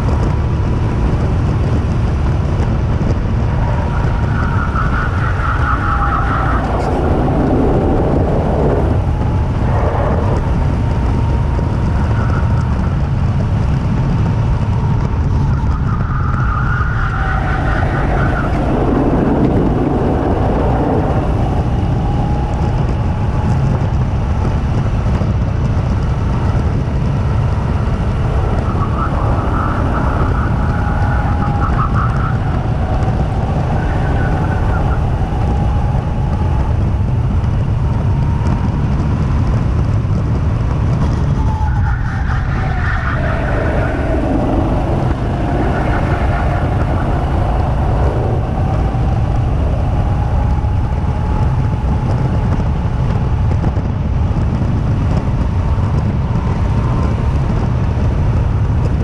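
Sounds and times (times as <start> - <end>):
go-kart motor whine: 0.0 - 59.0
wind rumble on microphone: 0.0 - 59.0.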